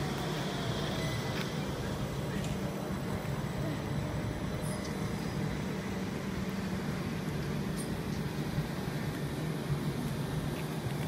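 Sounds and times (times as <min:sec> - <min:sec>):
electric train rolling past: 0:00.0 - 0:11.0
wheel and rail noise: 0:00.0 - 0:11.0.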